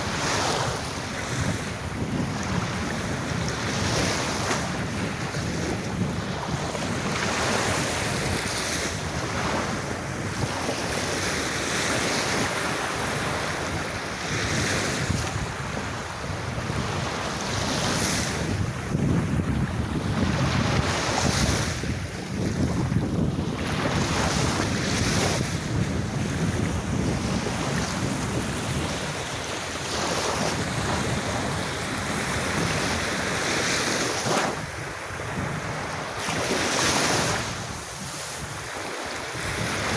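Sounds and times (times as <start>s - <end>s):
sea waves washing onto beach: 0.0s - 39.9s
wind buffeting microphone: 0.0s - 39.9s.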